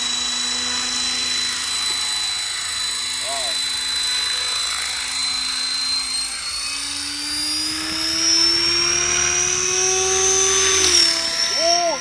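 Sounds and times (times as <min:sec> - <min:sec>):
electric motor whine: 0:00.0 - 0:12.0
rotor noise: 0:00.0 - 0:12.0.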